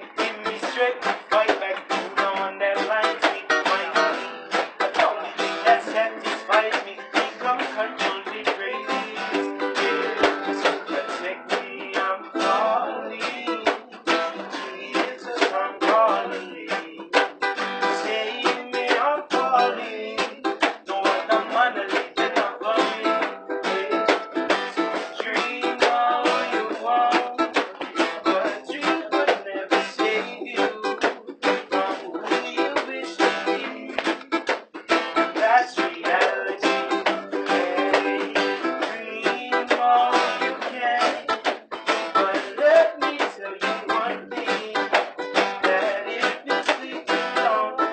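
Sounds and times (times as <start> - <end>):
ukulele and guitars strumming: 0.0 - 47.9.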